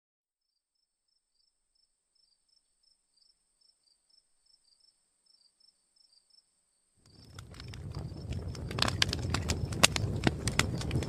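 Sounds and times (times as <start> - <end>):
crickets chirping: 0.4 - 11.0.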